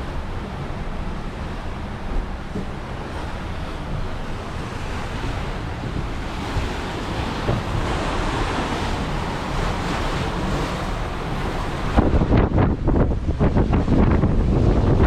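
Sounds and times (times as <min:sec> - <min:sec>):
water rushing past a boat: 0:00.0 - 0:15.0
wind buffeting microphone: 0:00.0 - 0:15.0.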